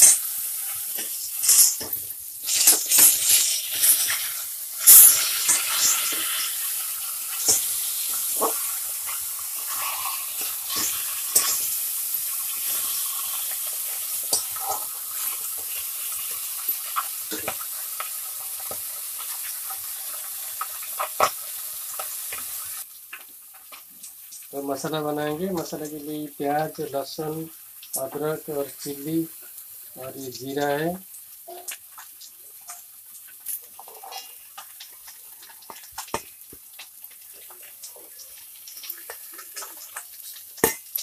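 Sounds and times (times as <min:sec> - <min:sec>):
fish frying sizzle: 0:00.0 - 0:41.0.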